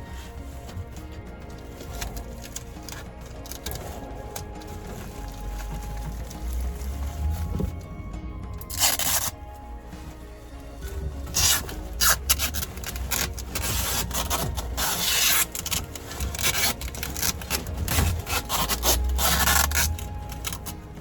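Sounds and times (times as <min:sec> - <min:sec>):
hand scraping material: 0:00.0 - 0:21.0.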